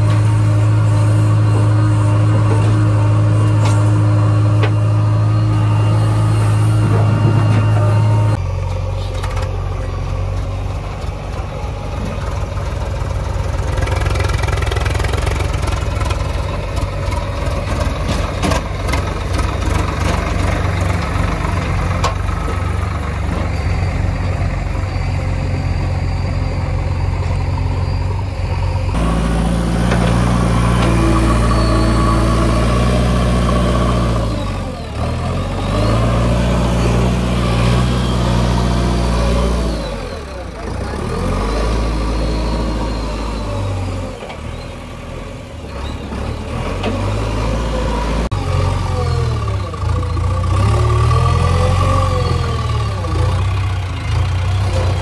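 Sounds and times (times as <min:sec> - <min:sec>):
backhoe loader diesel engine: 0:00.0 - 0:55.0
tractor diesel engine: 0:00.0 - 0:55.0.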